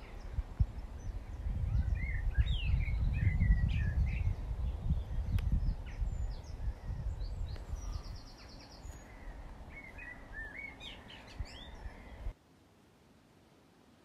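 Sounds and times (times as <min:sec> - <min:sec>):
small birds singing: 0:00.0 - 0:12.4.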